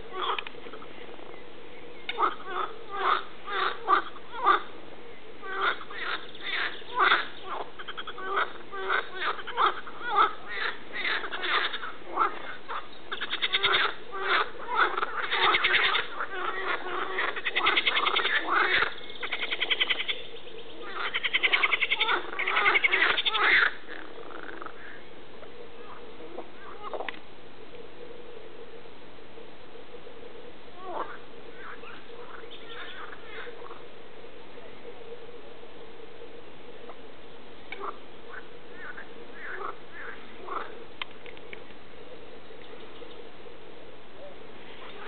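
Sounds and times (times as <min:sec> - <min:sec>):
frogs croaking: 0:00.0 - 0:45.0.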